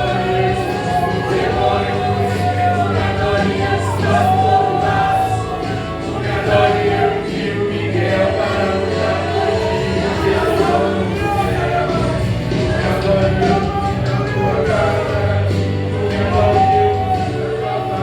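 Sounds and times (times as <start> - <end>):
instrumental backing: 0.0 - 18.0
voices singing gospel: 0.0 - 18.0.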